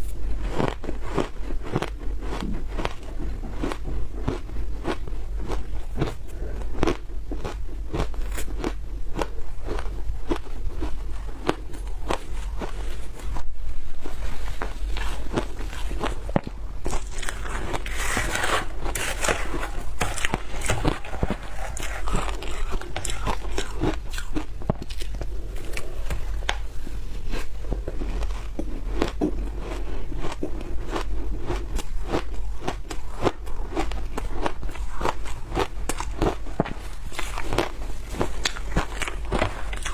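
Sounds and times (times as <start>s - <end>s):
chewing crunchy frozen food: 0.0s - 39.9s.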